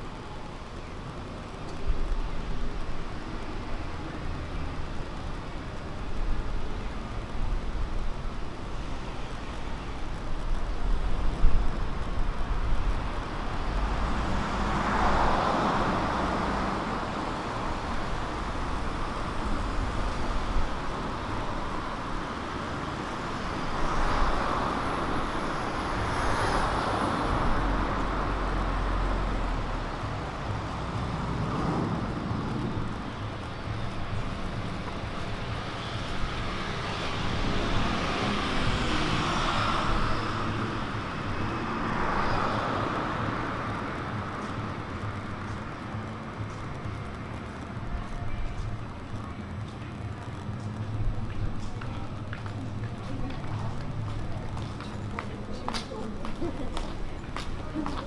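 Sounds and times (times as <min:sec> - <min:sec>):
cars passing: 0:00.0 - 0:58.0
low traffic rumble: 0:00.0 - 0:58.0.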